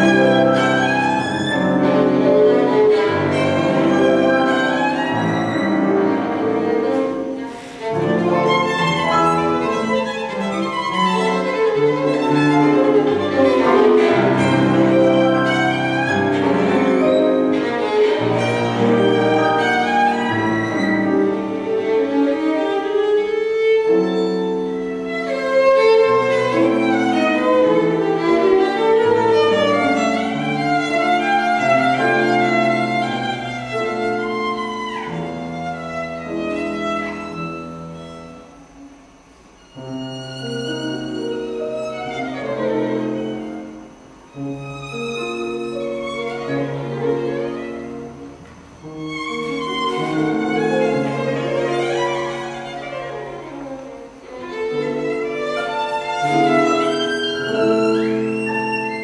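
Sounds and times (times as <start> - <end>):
grand piano accompaniment: 0.0 - 59.0
violin playing waltz melody: 0.0 - 59.0.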